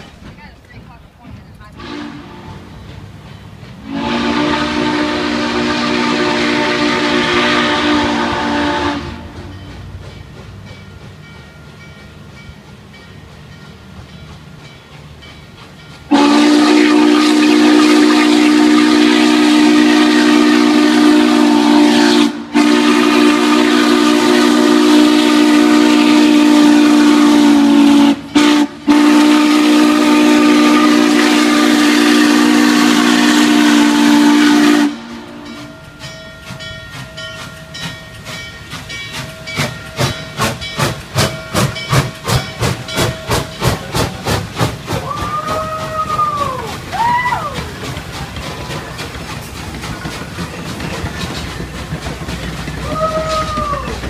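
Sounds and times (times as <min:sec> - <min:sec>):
steam exhaust chuffing: 0:00.0 - 0:54.0
steam locomotive chime whistle: 0:01.8 - 0:44.2, 0:52.8 - 0:54.0.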